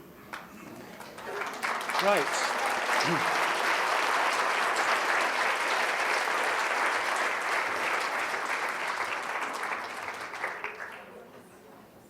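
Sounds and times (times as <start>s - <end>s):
audience applause: 0.3s - 11.3s.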